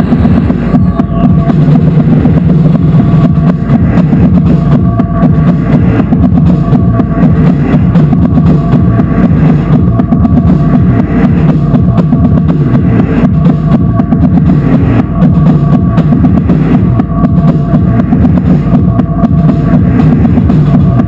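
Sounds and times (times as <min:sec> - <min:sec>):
distorted wall of noise: 0:00.0 - 0:21.0
droning tones: 0:00.0 - 0:21.0
drum kit pounded fast: 0:00.0 - 0:21.0.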